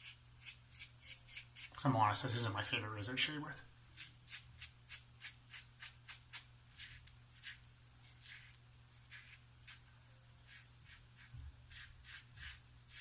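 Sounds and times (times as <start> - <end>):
razor scraping stubble: 0.0 - 1.8, 3.9 - 13.0.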